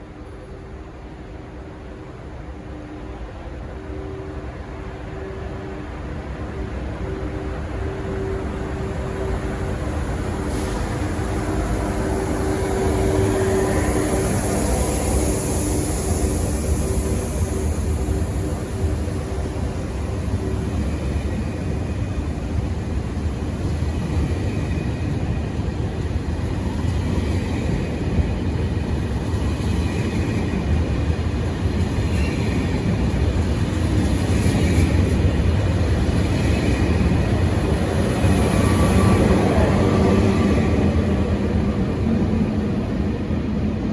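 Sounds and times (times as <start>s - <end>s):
train rumble with hiss: 0.0s - 43.9s.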